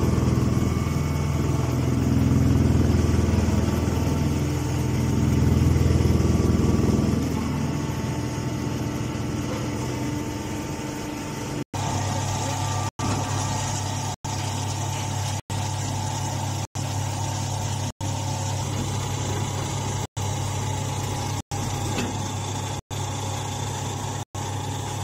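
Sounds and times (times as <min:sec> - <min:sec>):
hydraulic motor and pump humming: 0:00.0 - 0:25.0.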